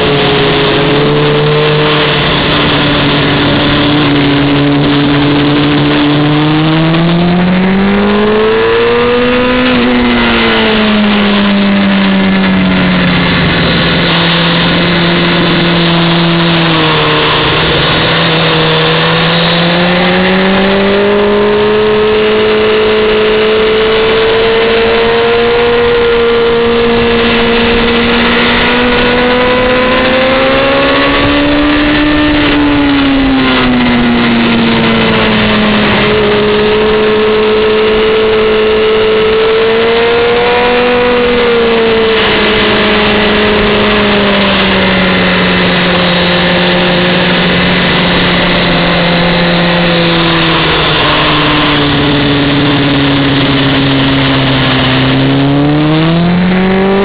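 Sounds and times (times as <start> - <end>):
motorcycle engine at high revs: 0.0 - 57.0
wind rush: 0.0 - 57.0.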